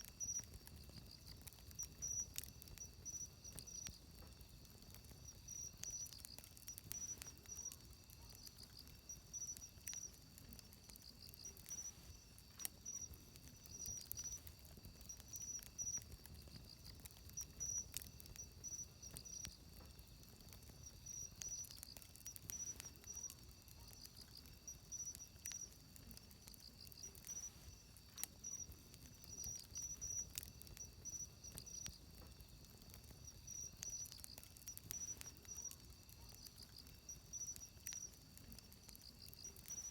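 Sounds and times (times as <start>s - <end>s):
insects chirping in trills: 0.0s - 39.9s
wood fire crackling: 0.0s - 39.9s.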